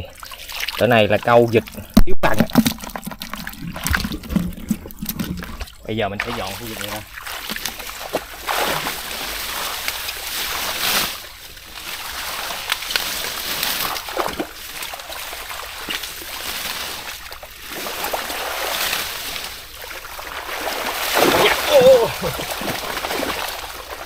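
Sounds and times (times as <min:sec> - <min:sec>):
water and mud splashing: 0:00.0 - 0:24.0.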